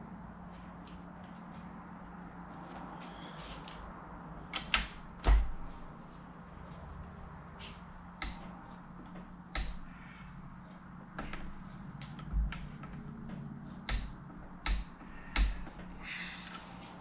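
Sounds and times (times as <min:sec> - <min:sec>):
low workshop hum: 0:00.0 - 0:17.0.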